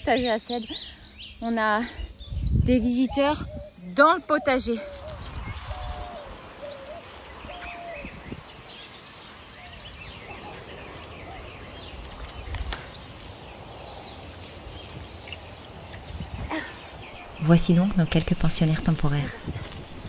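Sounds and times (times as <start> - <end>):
bird chirps: 0.0 - 19.3
mid-pitched bird calls: 0.1 - 18.7.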